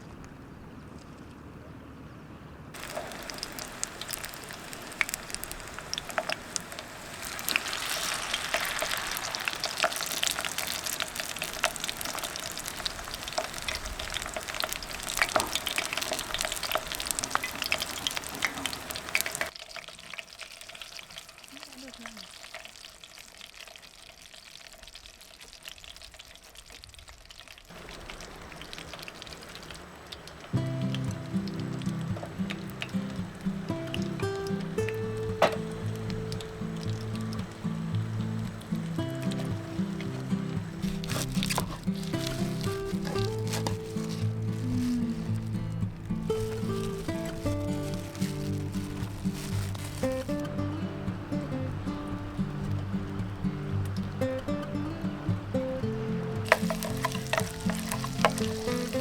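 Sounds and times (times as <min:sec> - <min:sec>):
food sizzling in a pan: 0:02.8 - 0:59.0.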